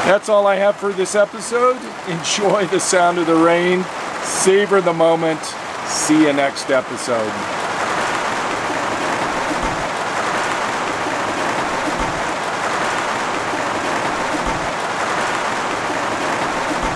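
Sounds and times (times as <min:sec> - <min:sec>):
steady rain patter: 0:00.0 - 0:16.9.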